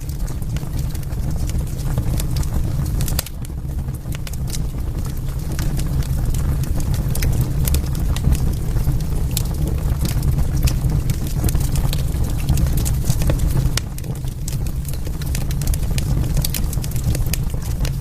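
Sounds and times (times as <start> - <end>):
fire flames rumbling: 0.0 - 18.0
wood fire crackling and popping: 0.0 - 18.0.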